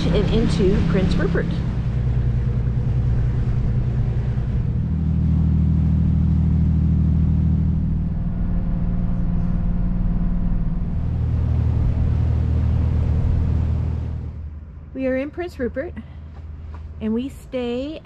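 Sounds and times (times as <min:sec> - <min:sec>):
boat diesel engine droning: 0:00.0 - 0:18.0.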